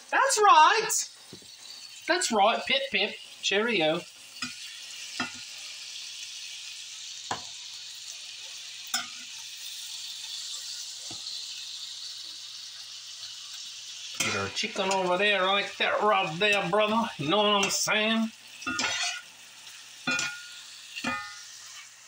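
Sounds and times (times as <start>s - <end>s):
food sizzling in a skillet: 0.0s - 22.0s.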